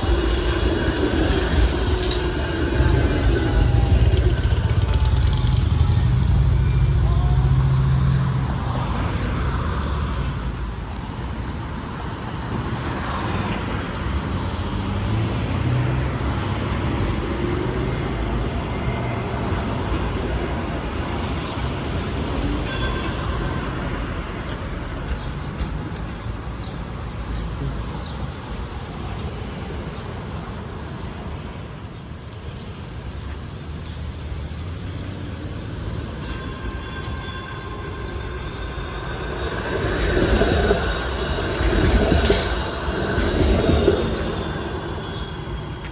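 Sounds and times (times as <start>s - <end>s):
streetcar rumbling on rails: 0.0s - 45.9s.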